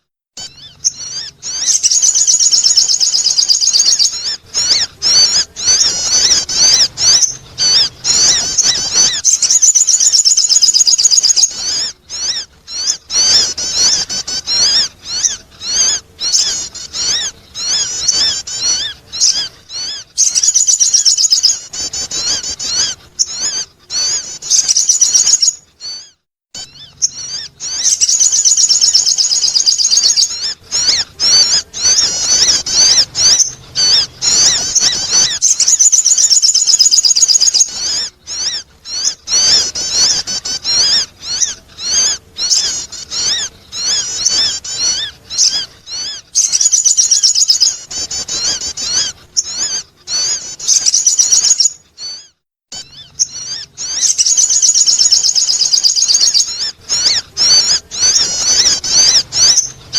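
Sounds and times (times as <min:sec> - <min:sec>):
bird chirps and trills: 0:00.0 - 0:59.9.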